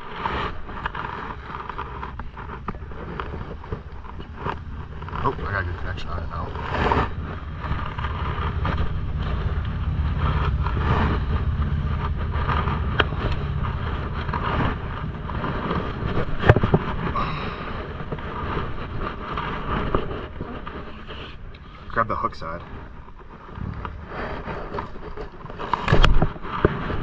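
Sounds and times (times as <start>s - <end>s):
rustling handling noise: 0.0s - 27.0s
steady low rumble: 0.0s - 27.0s
wet rope being hauled: 0.0s - 27.0s.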